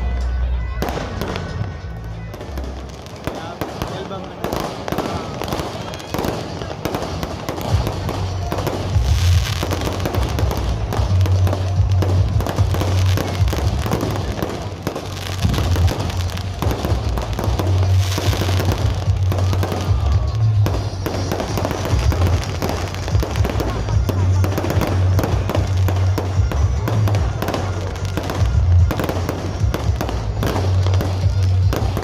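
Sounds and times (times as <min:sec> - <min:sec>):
firecrackers crackling: 0:00.0 - 0:32.0
music playing: 0:00.0 - 0:32.0.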